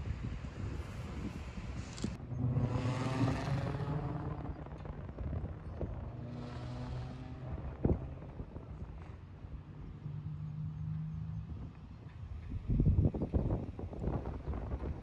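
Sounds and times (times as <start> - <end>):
vehicles passing by: 0.0 - 15.0.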